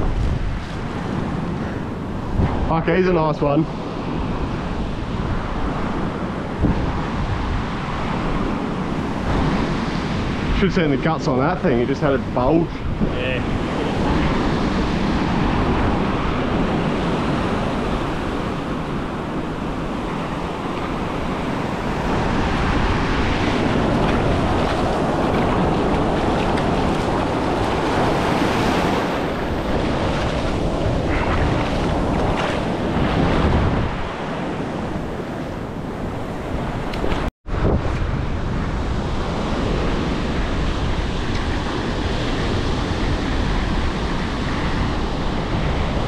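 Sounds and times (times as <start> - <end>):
ocean surf breaking on sand: 0.0 - 46.0
wind buffeting microphone: 0.0 - 46.0.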